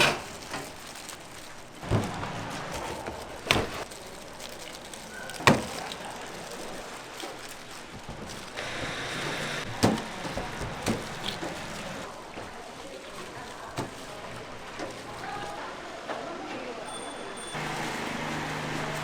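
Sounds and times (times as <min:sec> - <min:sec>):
kitchen knocks and clatters: 0:00.0 - 0:19.0.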